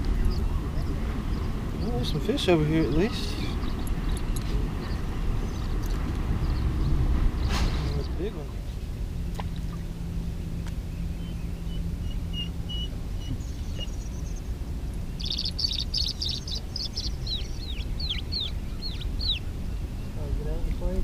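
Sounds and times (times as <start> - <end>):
songbird singing: 0.0 - 21.0
steady low rumble: 0.0 - 21.0.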